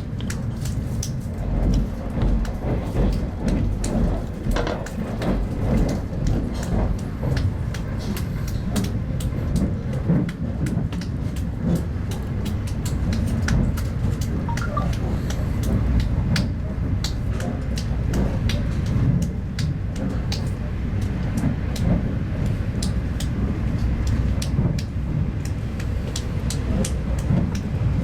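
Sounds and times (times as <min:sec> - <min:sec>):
train carriage rumble: 0:00.0 - 0:28.0.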